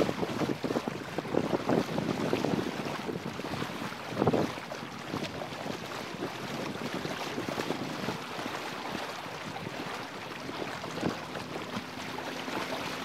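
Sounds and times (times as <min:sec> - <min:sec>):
water rushing along boat hull: 0:00.0 - 0:13.0
wind noise on microphone: 0:00.0 - 0:13.0.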